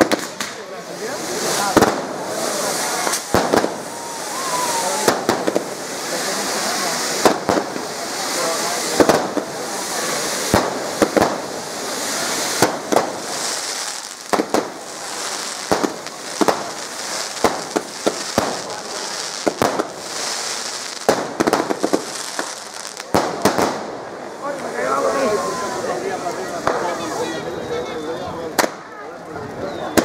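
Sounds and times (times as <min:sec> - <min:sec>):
hissing crackle: 0:00.0 - 0:26.8
firework bangs: 0:00.0 - 0:27.2, 0:28.5 - 0:29.0, 0:29.8 - 0:30.0.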